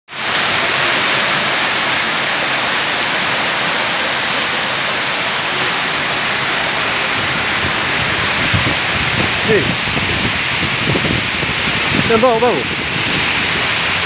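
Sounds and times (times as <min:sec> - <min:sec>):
heavy rain: 0:00.1 - 0:14.0
water rushing down steps: 0:00.1 - 0:14.0.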